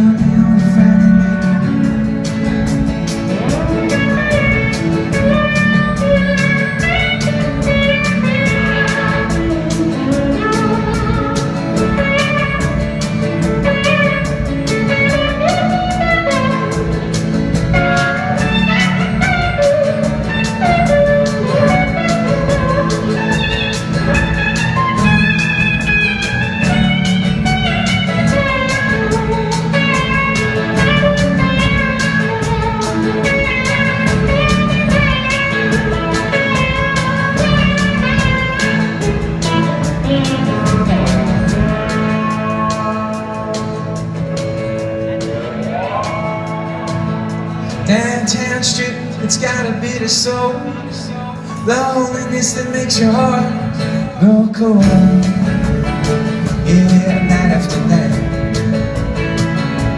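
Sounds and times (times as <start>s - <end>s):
drum beat: 0.0s - 48.8s, 54.7s - 59.9s
bass guitar: 0.0s - 59.9s
electric guitar melody: 0.0s - 59.9s.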